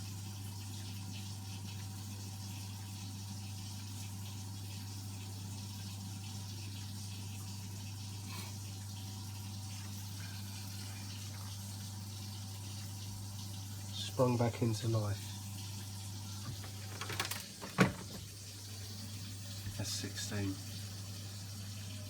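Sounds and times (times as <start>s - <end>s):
gas boiler low hum: 0.0s - 22.0s.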